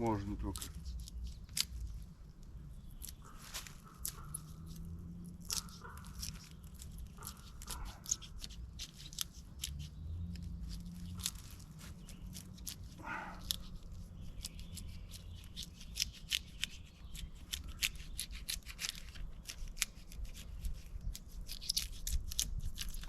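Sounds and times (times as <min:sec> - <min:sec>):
knife peeling bark crackling: 0:00.0 - 0:23.0.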